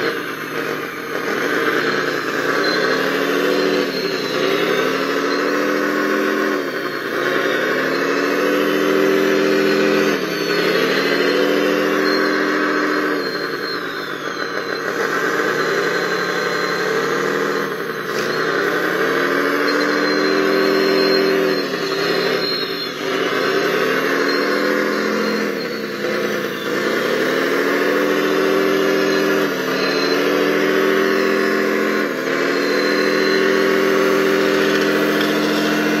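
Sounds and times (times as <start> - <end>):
model loader mechanical whine: 0.0 - 36.0.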